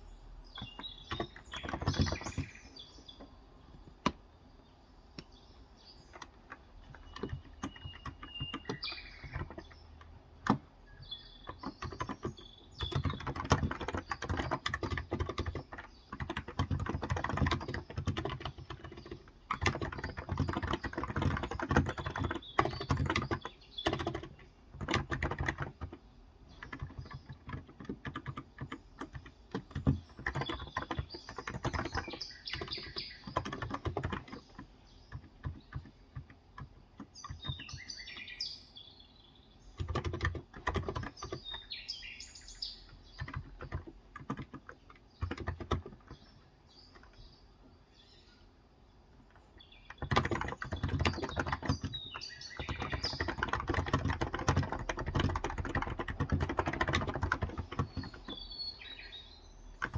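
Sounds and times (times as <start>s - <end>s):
birds chirping: 0.0s - 59.9s
keyboard typing: 0.5s - 4.3s, 6.0s - 38.4s, 39.7s - 41.8s, 42.7s - 47.3s, 49.2s - 58.9s, 59.6s - 59.9s.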